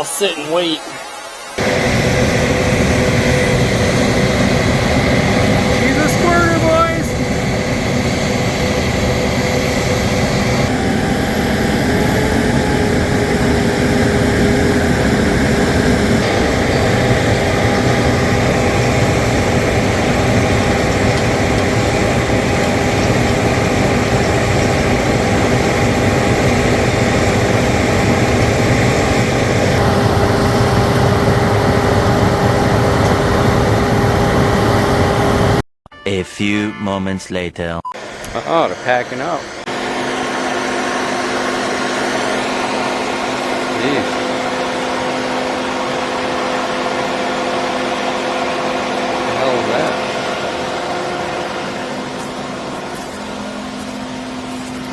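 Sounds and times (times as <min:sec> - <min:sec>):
constant machinery whine: 0:00.0 - 0:35.6, 0:38.0 - 0:54.9
drilling rig engine drone: 0:00.0 - 0:36.6, 0:38.0 - 0:54.9.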